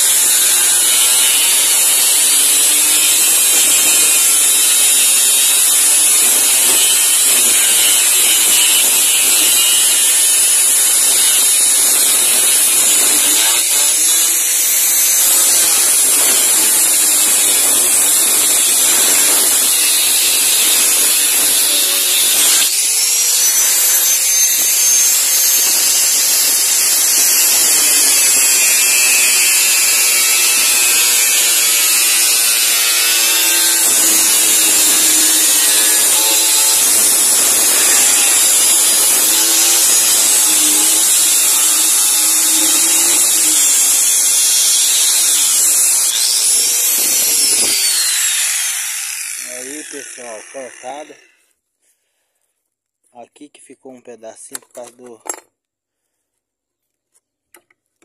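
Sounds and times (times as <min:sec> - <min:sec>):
angle grinder cutting steel: 0:00.0 - 0:51.4.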